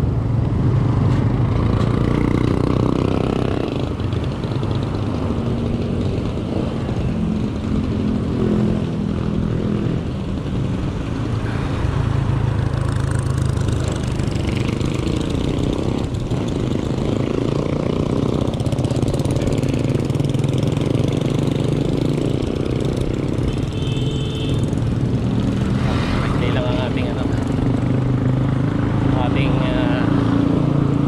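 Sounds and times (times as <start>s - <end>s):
street traffic: 0.0s - 31.0s.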